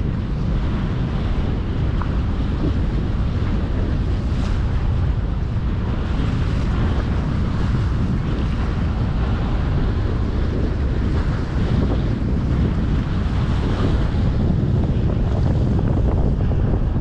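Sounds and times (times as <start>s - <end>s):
choppy sea water: 0.0s - 17.0s
wind buffeting microphone: 0.0s - 17.0s.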